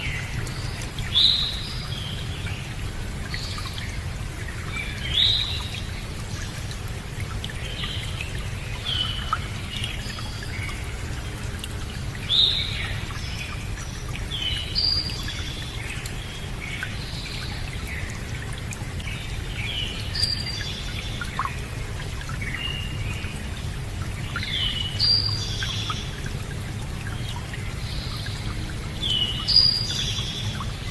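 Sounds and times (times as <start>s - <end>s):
running water: 0.0s - 30.9s.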